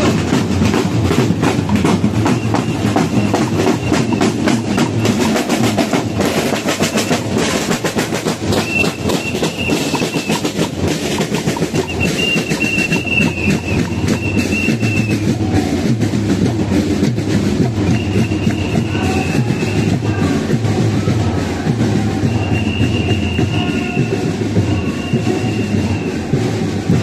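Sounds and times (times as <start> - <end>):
marching drums: 0.0 - 27.0.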